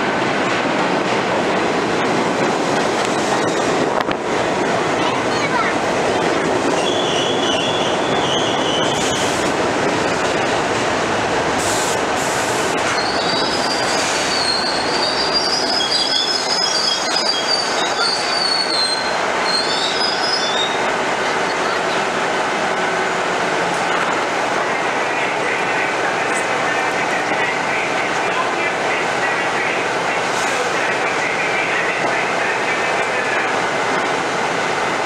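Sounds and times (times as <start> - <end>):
subway train wheels rumbling: 0.0 - 35.0.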